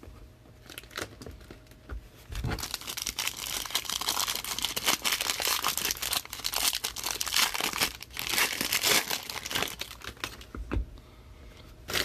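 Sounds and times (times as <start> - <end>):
plastic wrapping crinkling and tearing: 0.6 - 10.5.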